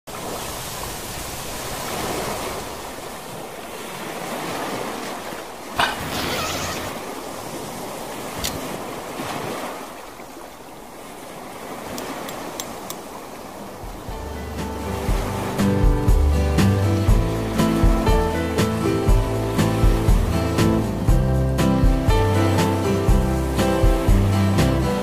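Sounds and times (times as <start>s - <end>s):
waves washing onto sandy shore: 0.1s - 25.0s.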